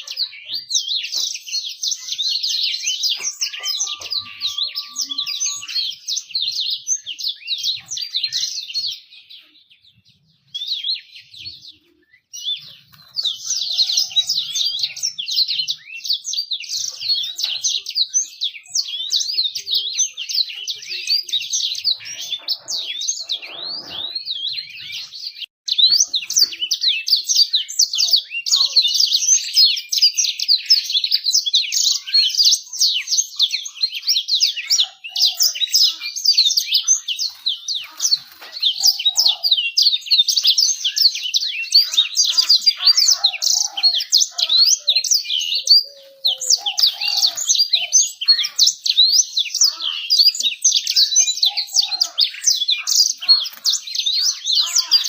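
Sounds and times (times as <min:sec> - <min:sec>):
canary chirping and trilling: 0:00.0 - 0:55.0.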